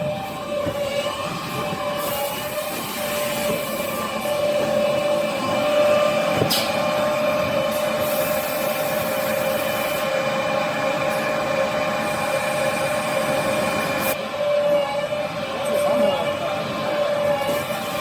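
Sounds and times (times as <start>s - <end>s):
cutting machine drone and whine: 0.0s - 18.0s.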